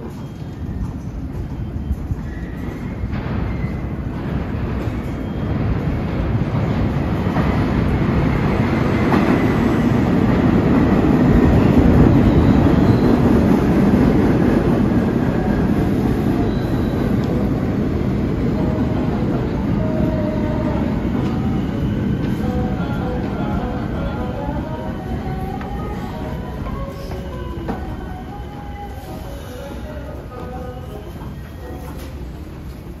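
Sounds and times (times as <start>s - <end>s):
faint train squeals: 0.0s - 6.5s, 11.2s - 14.2s, 15.0s - 33.0s
train wheels rumbling on rails: 0.0s - 33.0s.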